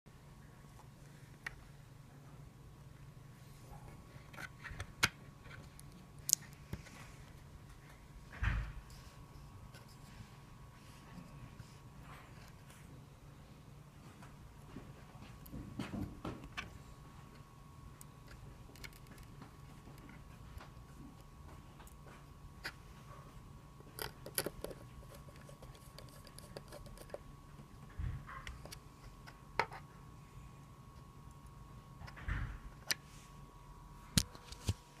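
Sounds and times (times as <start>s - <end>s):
faint steady hum: 0.1s - 35.0s.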